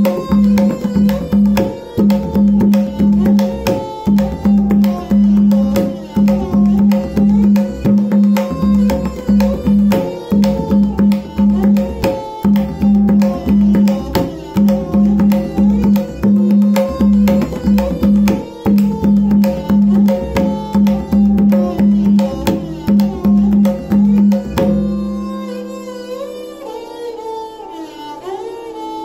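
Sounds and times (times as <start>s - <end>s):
tabla drumming: 0.0s - 26.0s
melodic accompaniment: 0.0s - 29.0s.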